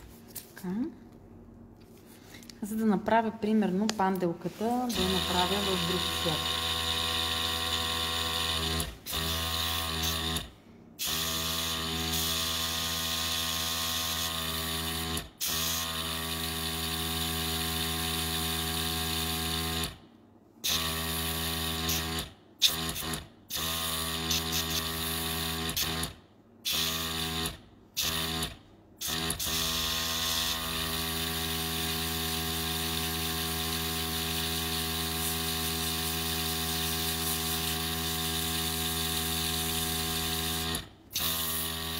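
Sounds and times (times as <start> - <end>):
compressor buzzing hum: 0.0 - 41.9.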